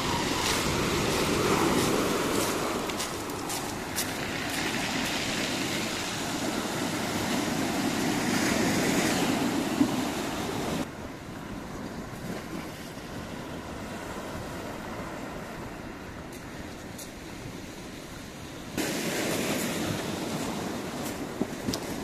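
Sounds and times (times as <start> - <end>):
wind and surf rushing: 0.0 - 22.0.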